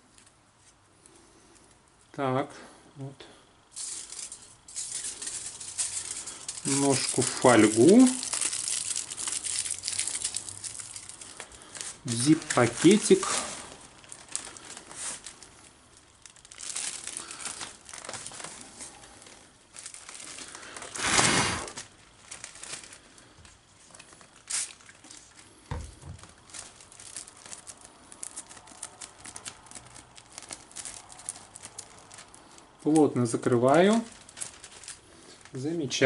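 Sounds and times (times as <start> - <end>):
plastic bag crinkling: 3.7 - 36.0.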